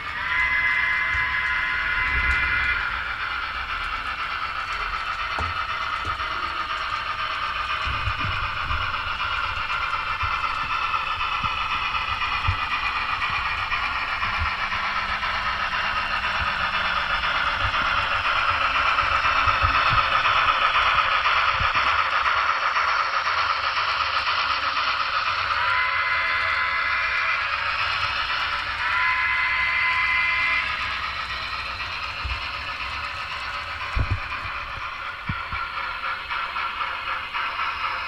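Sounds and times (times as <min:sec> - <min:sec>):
model steam locomotive sounds: 0:00.0 - 0:38.0.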